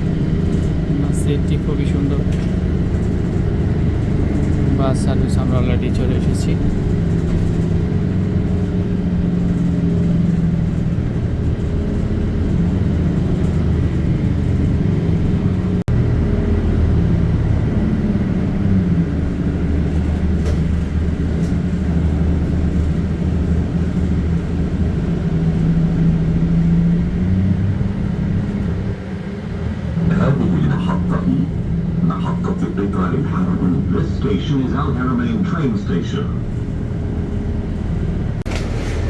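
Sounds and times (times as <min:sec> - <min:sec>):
bus engine and road noise: 0:00.0 - 0:39.0.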